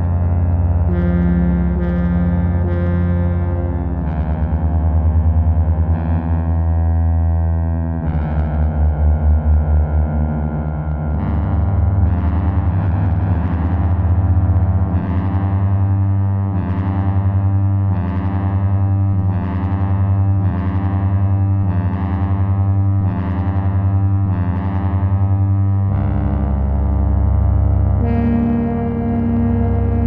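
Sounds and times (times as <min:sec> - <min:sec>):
ambient synthesizer drone: 0:00.0 - 0:30.0.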